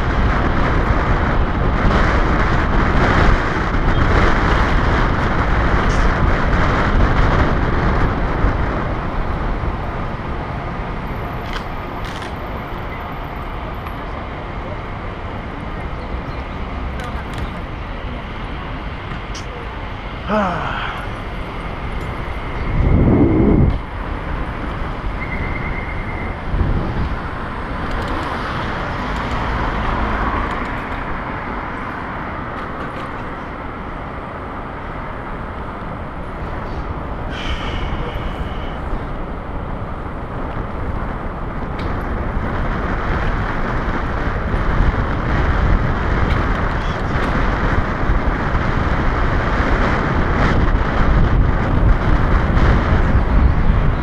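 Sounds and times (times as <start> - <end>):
street traffic: 0.0 - 54.0
wind buffeting microphone: 0.0 - 54.0.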